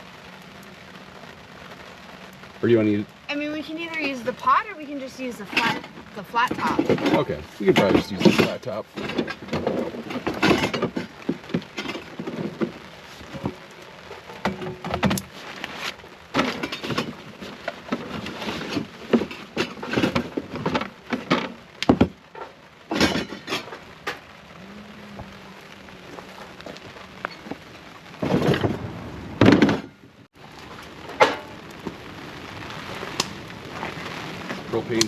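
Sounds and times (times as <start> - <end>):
rain patter: 0.0 - 35.0.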